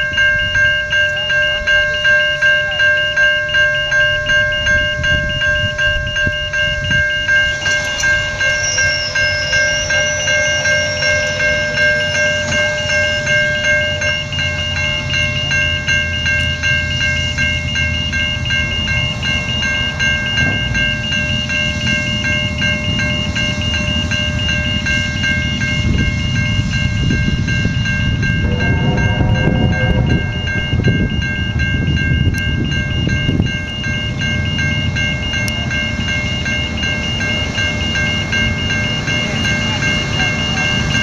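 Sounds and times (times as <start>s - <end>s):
pulsing ringing tone: 0.0s - 41.0s
steam locomotive rumble: 0.0s - 41.0s.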